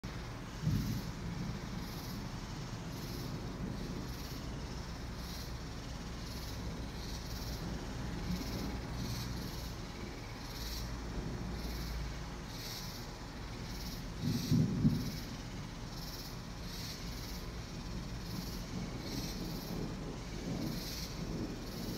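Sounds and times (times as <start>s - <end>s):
insects chirping in pulses: 0.0s - 21.9s
steady low rumble: 0.0s - 21.9s.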